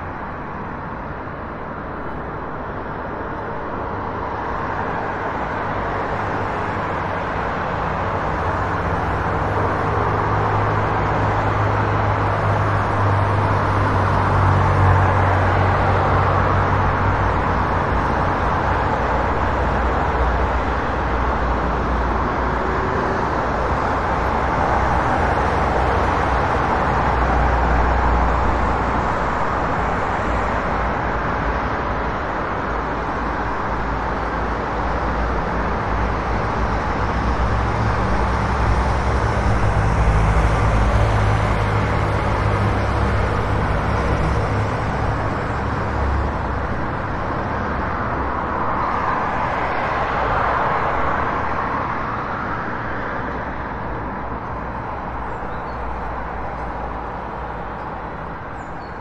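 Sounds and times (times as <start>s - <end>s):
city traffic: 0.0s - 59.0s.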